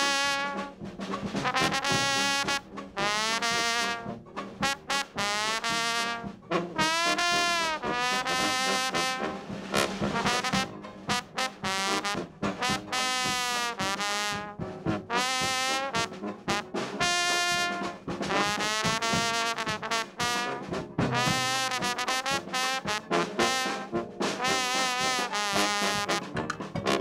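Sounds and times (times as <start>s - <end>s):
trombone jazz solo: 0.0s - 27.0s.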